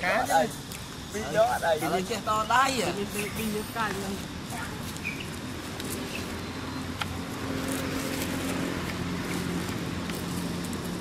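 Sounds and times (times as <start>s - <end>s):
vehicle engine humming: 0.9s - 11.0s.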